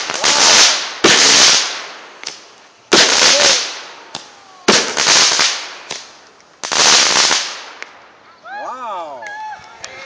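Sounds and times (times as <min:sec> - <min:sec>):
fireworks bangs with crackling hiss: 0:00.0 - 0:08.2.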